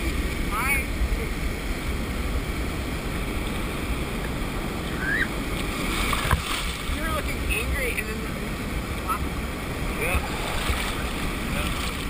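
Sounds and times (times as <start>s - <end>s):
surf washing and churning: 0.0s - 12.0s
wind buffeting microphone: 0.0s - 12.0s.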